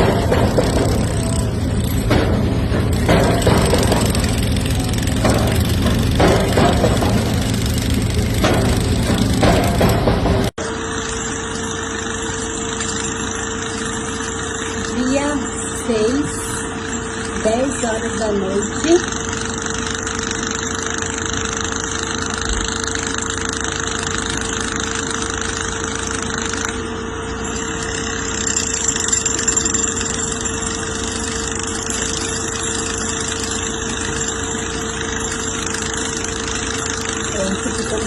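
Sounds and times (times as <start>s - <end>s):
machinery engine drone: 0.0s - 38.0s.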